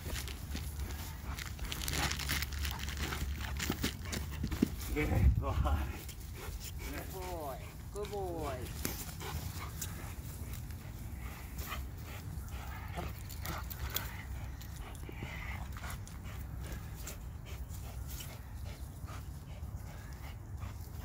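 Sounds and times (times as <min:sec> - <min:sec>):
dog panting: 0:00.0 - 0:05.0, 0:05.8 - 0:21.0.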